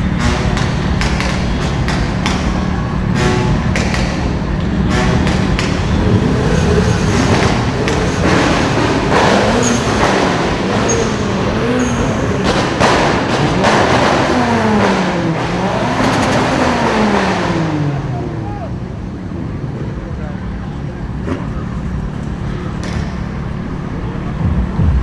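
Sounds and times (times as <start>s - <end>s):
car engine revving: 0.0s - 25.0s
other engines running: 0.0s - 25.0s.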